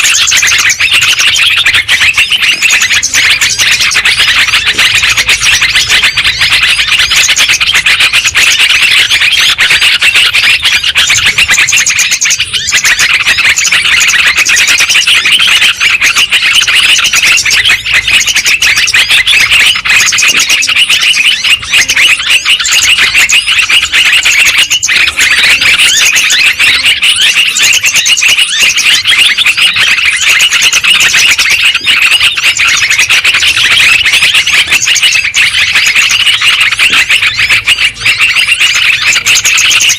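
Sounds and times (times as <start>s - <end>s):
bulbuls chattering and chirping: 0.0s - 39.9s.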